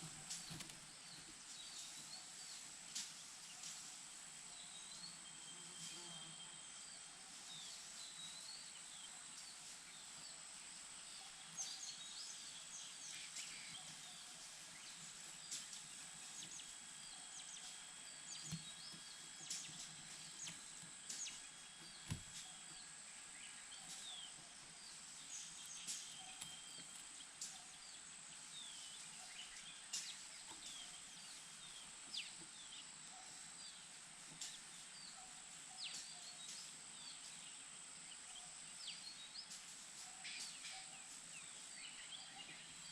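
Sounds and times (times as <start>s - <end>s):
steady high-pitched hiss: 0.0s - 42.9s.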